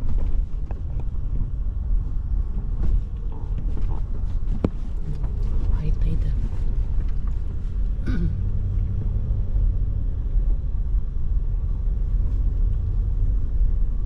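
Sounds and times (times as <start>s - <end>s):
pickup truck engine and road noise: 0.0s - 14.0s.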